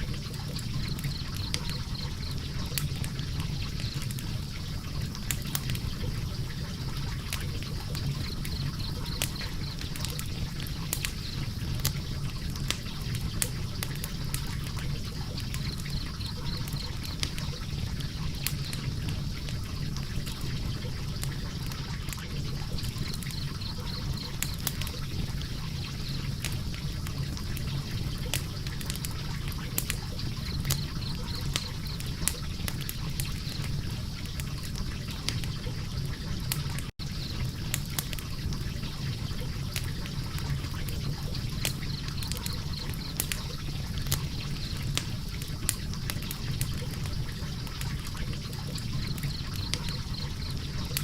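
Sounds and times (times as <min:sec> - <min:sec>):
fire crackling and popping: 0:00.0 - 0:51.0
fire flames rushing: 0:00.0 - 0:51.0.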